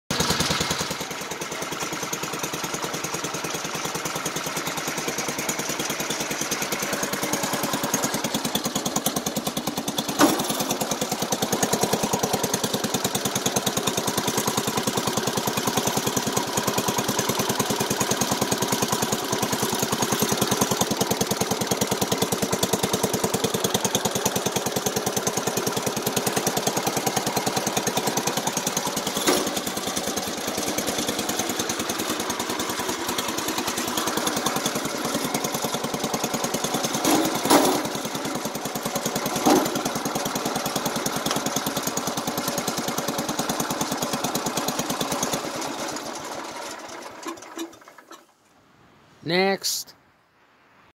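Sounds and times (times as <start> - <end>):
garden tractor engine running: 0.1 - 48.3.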